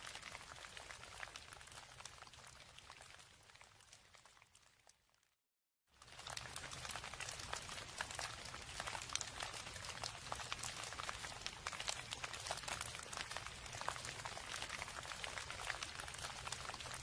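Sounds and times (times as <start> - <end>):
steady rain with drop ticks: 0.0 - 5.0, 6.0 - 17.0.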